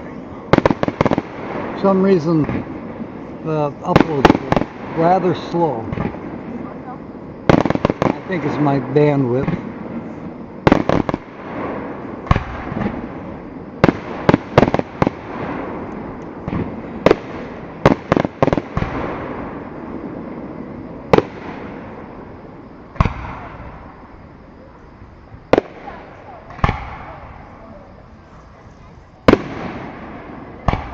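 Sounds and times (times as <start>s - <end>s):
rumbling echo: 0.0s - 28.4s
fireworks bangs: 0.0s - 30.9s
fireworks crackle: 0.0s - 30.9s.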